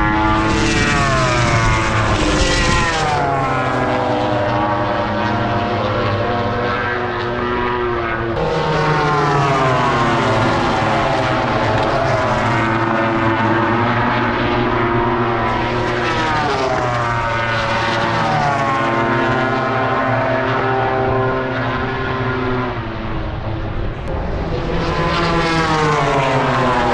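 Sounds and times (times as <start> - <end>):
motorcycle engines at high revs: 0.0 - 26.9.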